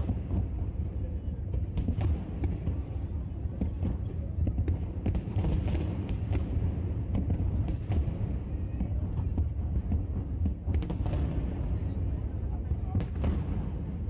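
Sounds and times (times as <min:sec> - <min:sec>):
low rumble of fireworks: 0:00.0 - 0:14.0.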